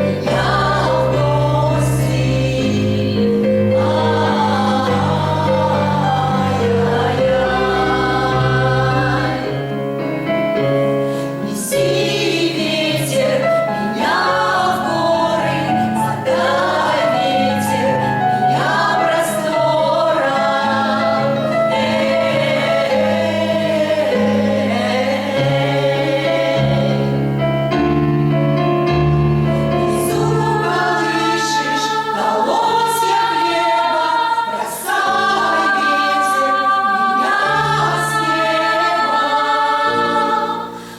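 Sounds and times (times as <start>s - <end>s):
choir singing: 0.0s - 10.7s, 11.3s - 28.0s, 29.1s - 40.9s.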